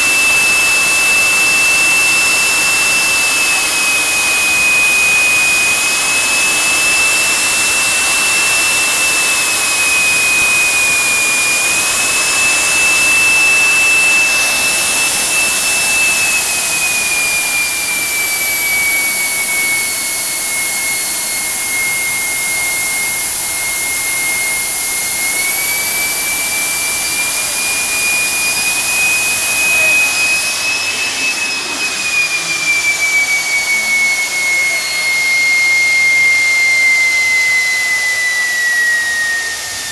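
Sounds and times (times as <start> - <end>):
jet turbine engine whine: 0.0 - 39.9.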